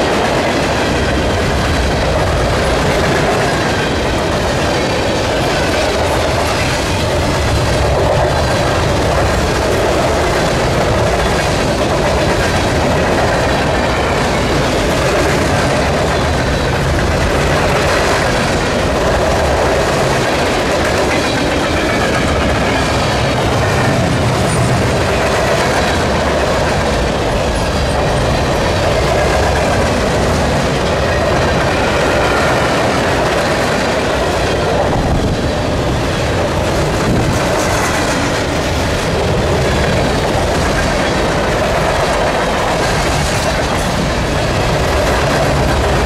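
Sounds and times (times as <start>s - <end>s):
train wheels rolling on rail: 0.0s - 46.0s.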